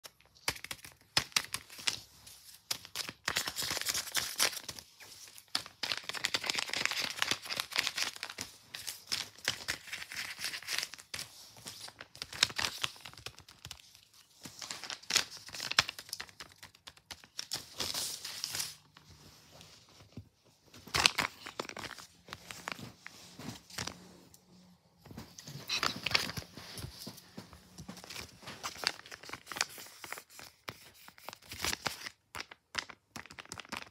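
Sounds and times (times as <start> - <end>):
paper crinkling and rustling: 0.0 - 33.9.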